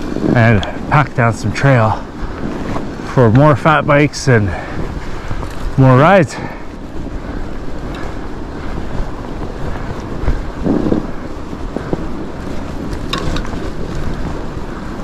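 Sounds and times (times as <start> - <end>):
bike tyres rolling on snow: 0.0 - 15.0
wind buffeting microphone: 0.0 - 15.0.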